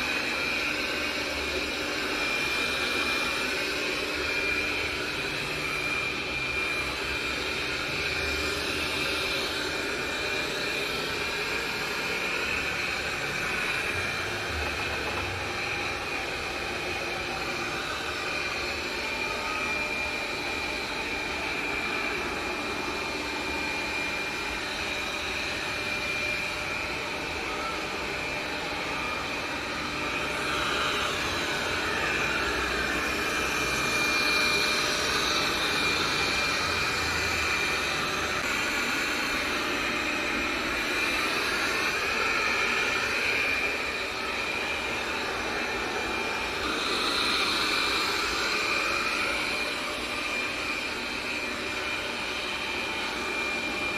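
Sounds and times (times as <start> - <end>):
robot vacuum motor whine: 0.0 - 53.9.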